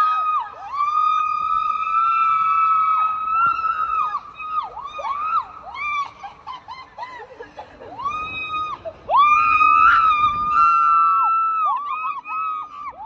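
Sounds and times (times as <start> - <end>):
people screaming: 0.0 - 13.0.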